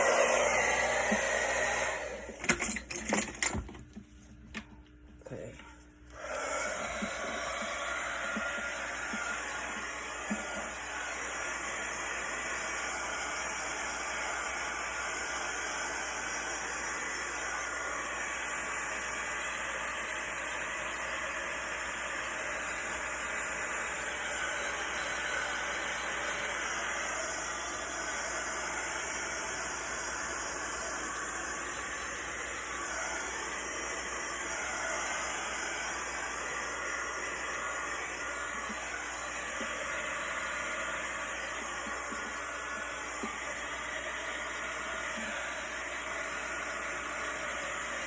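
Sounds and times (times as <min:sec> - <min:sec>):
heat gun blowing hot air: 0:00.0 - 0:02.6, 0:06.1 - 0:48.0.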